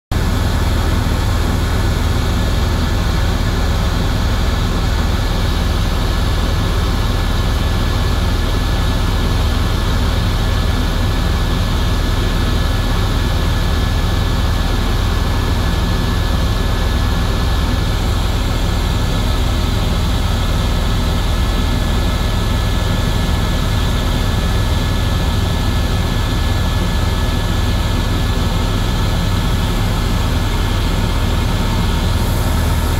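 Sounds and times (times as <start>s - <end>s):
helicopter engine and rotor drone: 0.1s - 32.9s.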